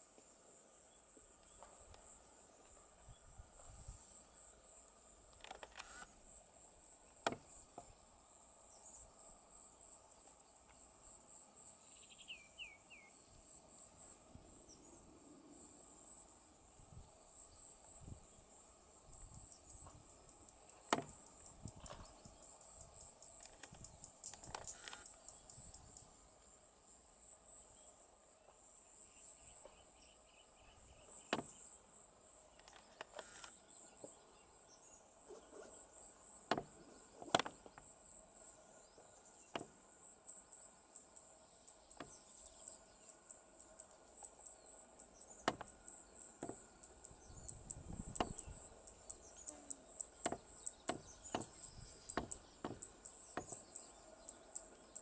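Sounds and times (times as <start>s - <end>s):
insects chirping in pulsing trill: 0.0s - 55.0s.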